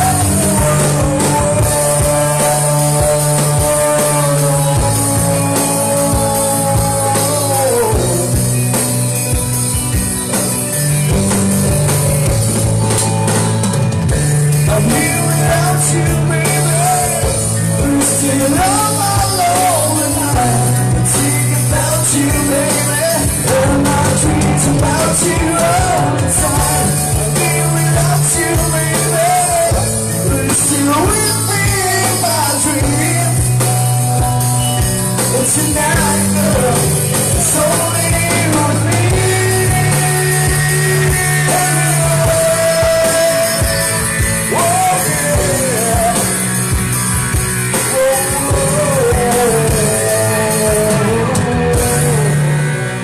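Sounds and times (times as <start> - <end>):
person singing: 0.0 - 9.5, 14.2 - 53.0
bass guitar: 0.0 - 53.0
live rock band playing: 0.0 - 53.0.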